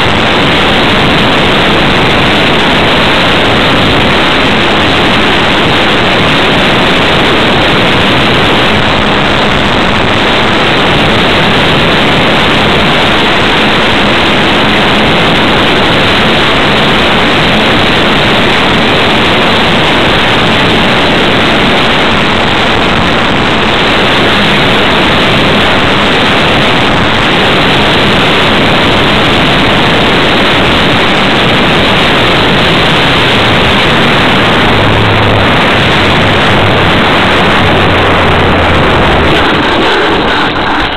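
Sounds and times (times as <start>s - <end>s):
rushing airflow and propeller: 0.0s - 40.9s.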